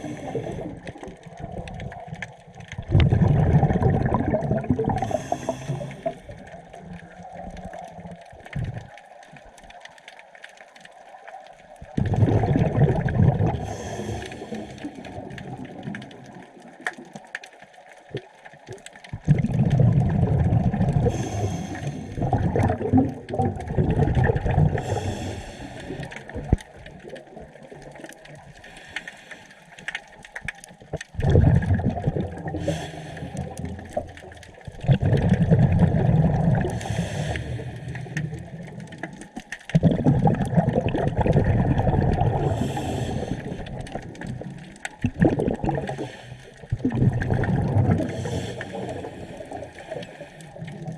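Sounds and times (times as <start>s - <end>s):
exhaled bubbles rumbling: 0.0s - 50.9s.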